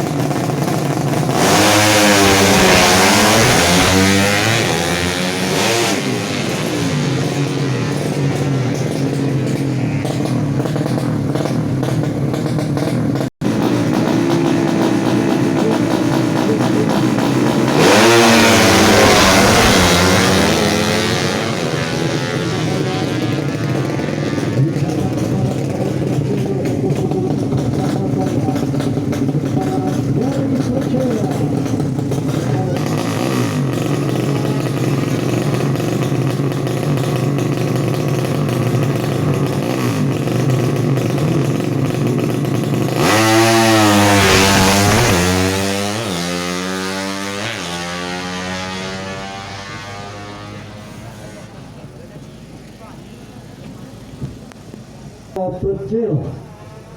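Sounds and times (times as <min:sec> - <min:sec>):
motorcycle engine at full throttle: 0:00.0 - 0:56.9.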